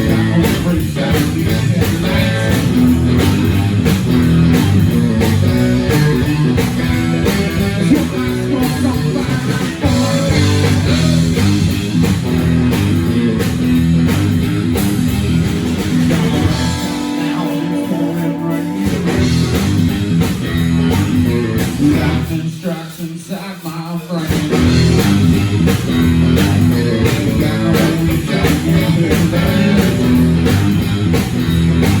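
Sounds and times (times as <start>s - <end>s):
bass guitar: 0.0s - 22.5s, 24.3s - 32.0s
electric guitar: 0.0s - 22.5s, 24.3s - 32.0s
drums: 0.0s - 32.0s.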